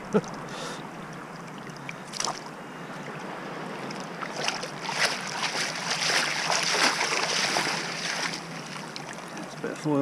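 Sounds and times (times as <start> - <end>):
sea water sloshing and splashing: 1.1 - 9.6.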